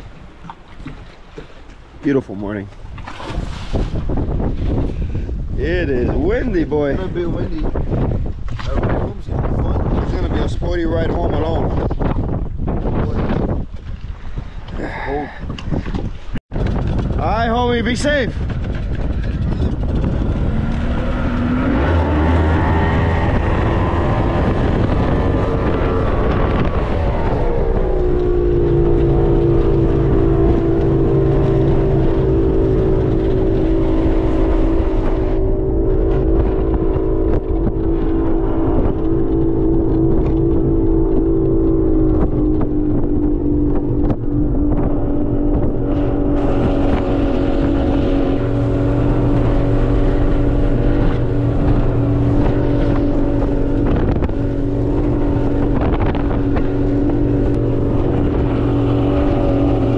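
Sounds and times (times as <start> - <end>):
speedboat engine running: 0.0 - 59.9
wind buffeting microphone: 0.0 - 59.9.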